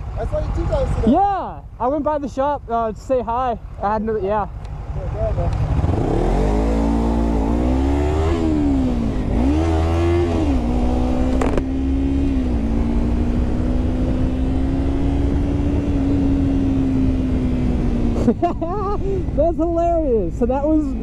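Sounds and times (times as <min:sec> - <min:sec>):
low wind rumble: 0:00.0 - 0:21.0
motorcycle engine accelerating: 0:00.0 - 0:21.0.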